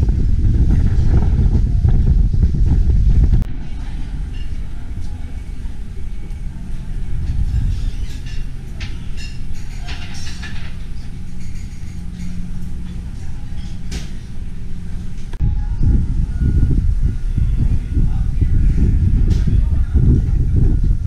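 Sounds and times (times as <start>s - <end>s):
faint chatter of people: 0.0s - 21.0s
wind buffeting microphone: 0.0s - 21.0s.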